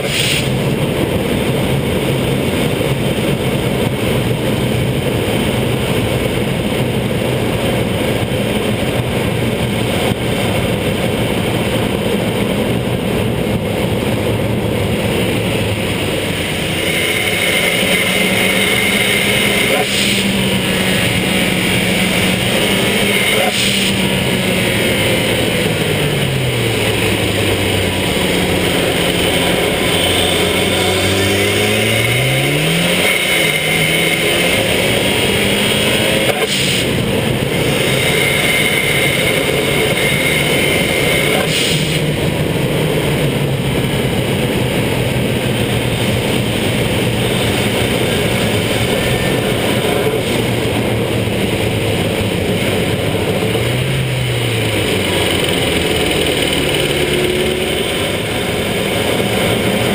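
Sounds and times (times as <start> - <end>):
tyres hissing on wet road: 0.0 - 3.4, 14.8 - 59.9
car engine accelerating: 0.0 - 59.9
wind: 0.0 - 59.9.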